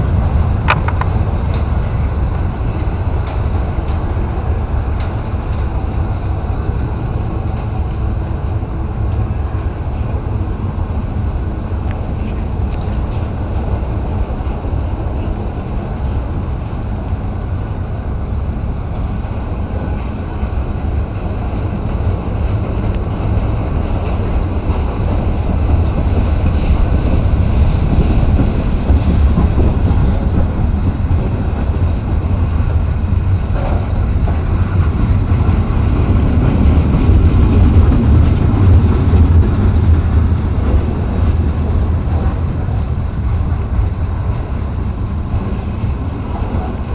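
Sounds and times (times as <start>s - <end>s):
freight train wheels rumbling: 0.0s - 46.9s.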